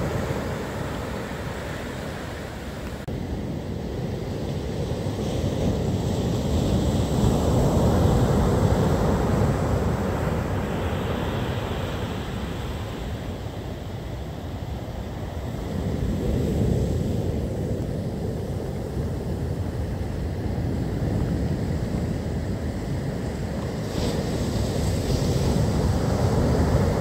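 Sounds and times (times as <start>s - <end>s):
surf waves crashing: 0.0s - 27.0s
wind on microphone: 0.0s - 27.0s.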